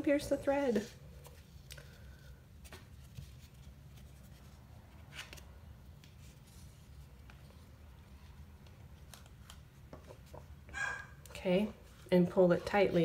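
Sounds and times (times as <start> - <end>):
paper and covers rustling: 0.0 - 10.5.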